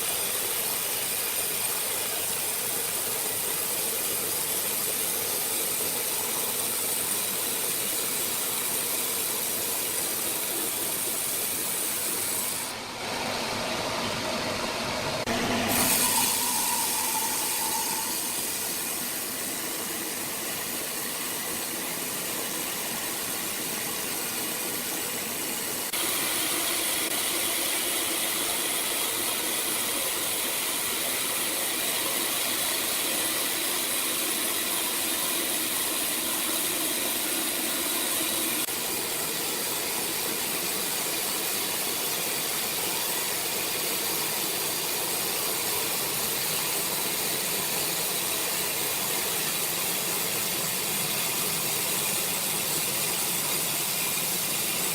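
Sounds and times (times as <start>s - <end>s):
sawmill machinery hissing: 0.0s - 54.9s.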